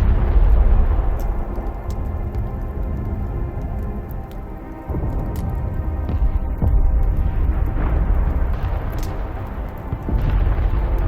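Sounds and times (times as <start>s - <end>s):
distant artillery rumble: 0.0s - 11.0s
low dark drone: 0.0s - 11.0s.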